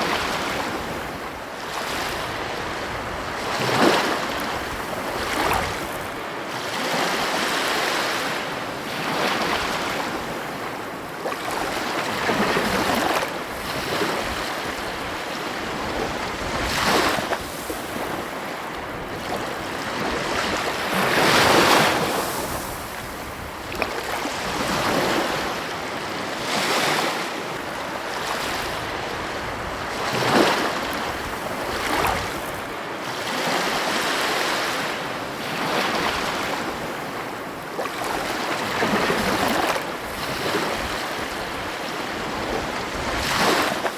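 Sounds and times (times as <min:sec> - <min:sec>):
waves breaking on beach: 0:00.0 - 0:43.9.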